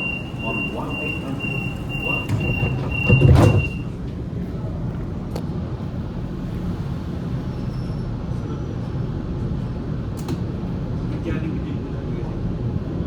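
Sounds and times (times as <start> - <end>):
electric train rumbling: 0.0 - 11.3.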